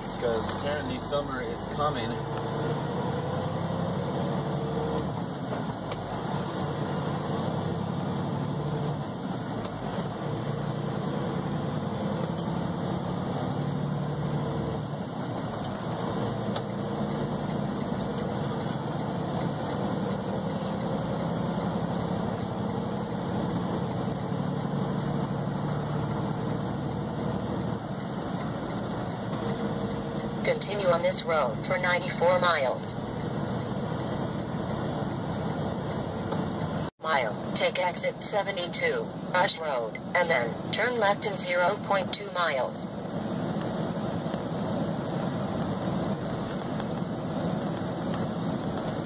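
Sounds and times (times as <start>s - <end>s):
road noise: 0.0s - 49.0s
truck diesel engine running: 0.0s - 49.0s.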